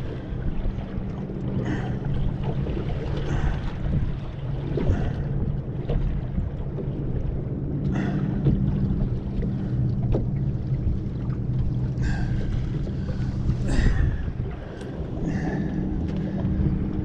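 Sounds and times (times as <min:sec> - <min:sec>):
low hum: 0:00.0 - 0:17.0
wind rumble on microphone: 0:00.0 - 0:17.0.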